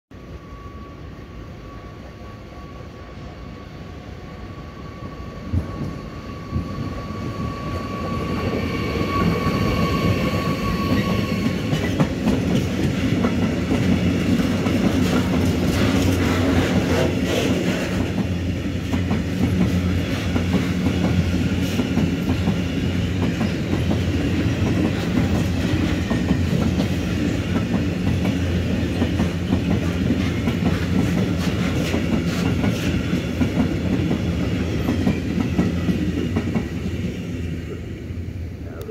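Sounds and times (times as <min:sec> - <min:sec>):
electric locomotive whine: 0:00.1 - 0:38.9.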